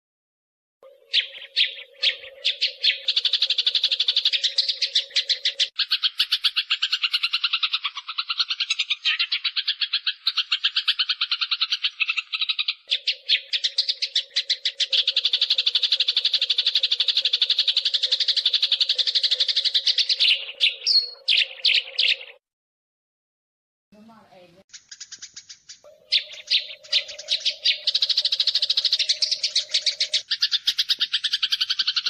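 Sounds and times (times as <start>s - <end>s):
sparrows chirping rapidly: 0.8s - 22.4s, 24.0s - 32.0s.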